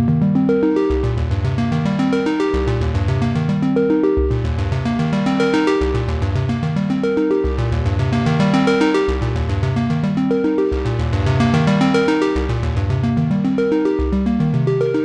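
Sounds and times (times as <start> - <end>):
synthesizer arpeggio: 0.0 - 15.0.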